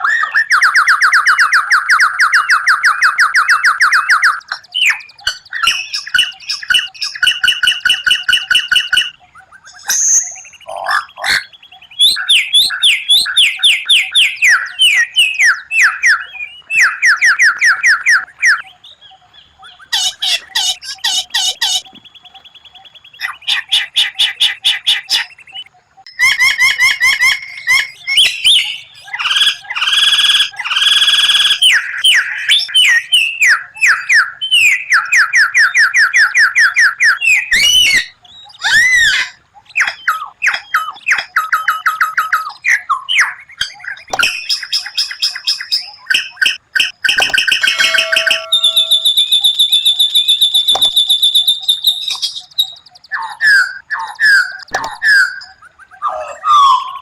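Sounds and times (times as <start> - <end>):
bird song with fast trills: 0.0 - 57.0.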